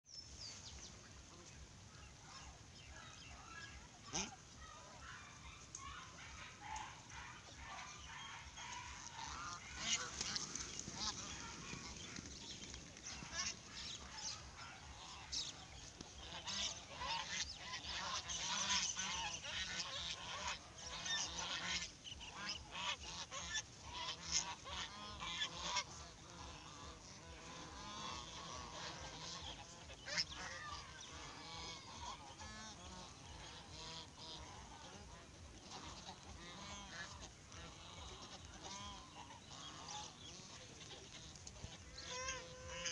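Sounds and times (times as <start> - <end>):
geese honking: 2.2 - 42.9.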